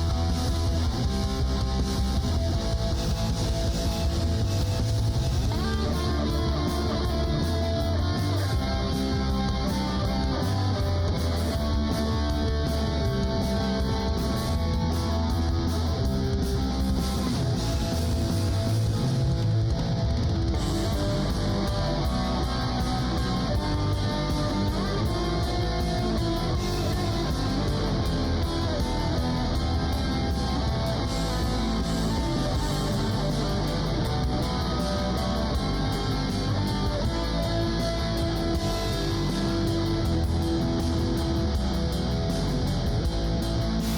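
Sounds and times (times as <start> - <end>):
guitar-led background music: 0.0 - 43.9.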